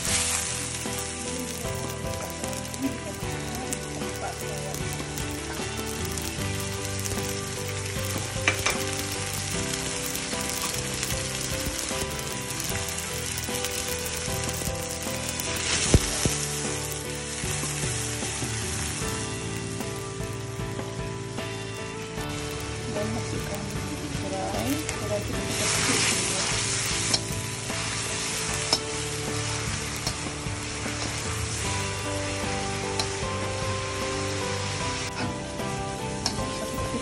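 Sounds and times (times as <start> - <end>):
spices sizzling in hot oil: 0.0 - 37.0.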